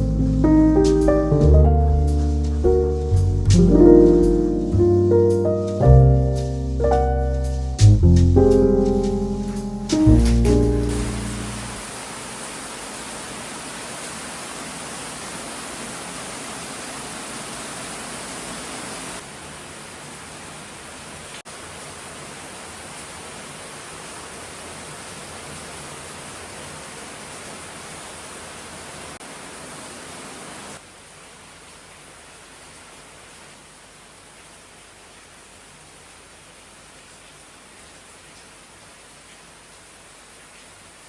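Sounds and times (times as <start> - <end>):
rain hissing: 0.0 - 41.0.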